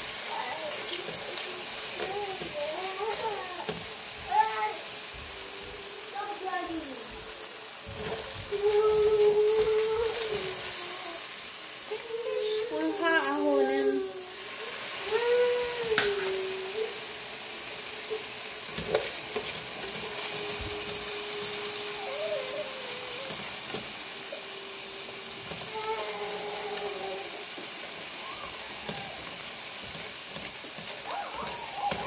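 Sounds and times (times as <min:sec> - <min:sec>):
popcorn kernels rattling in a pan: 0:00.0 - 0:32.0
steady sizzling hiss: 0:00.0 - 0:32.0.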